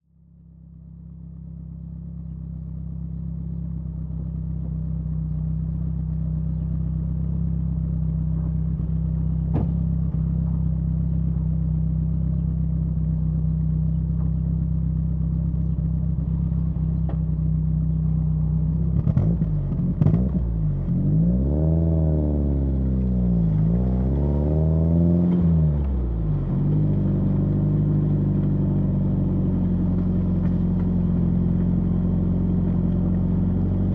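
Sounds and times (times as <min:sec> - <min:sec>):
car engine exhaust idling and revving: 0:00.0 - 0:33.9.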